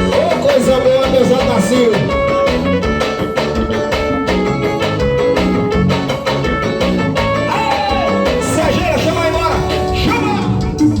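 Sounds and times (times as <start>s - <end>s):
live band playing instrumental: 0.0s - 11.0s.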